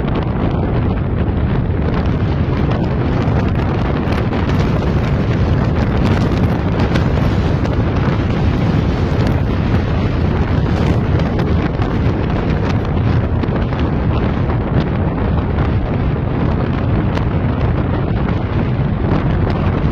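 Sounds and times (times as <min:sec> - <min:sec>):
car running noise: 0:00.0 - 0:19.9
wind buffeting microphone: 0:00.0 - 0:19.9.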